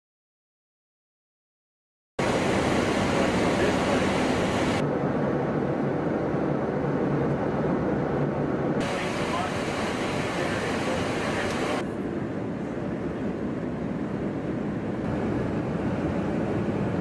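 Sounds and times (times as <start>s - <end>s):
jet cabin engine noise: 2.2s - 17.0s.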